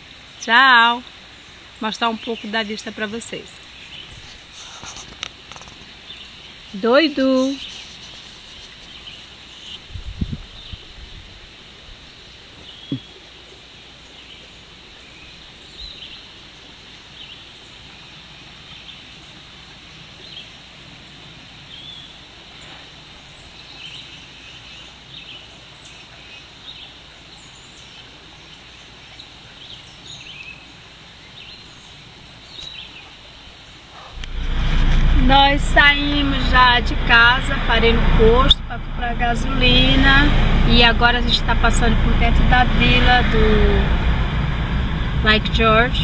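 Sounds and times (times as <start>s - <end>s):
distant water hiss: 0.0s - 46.0s.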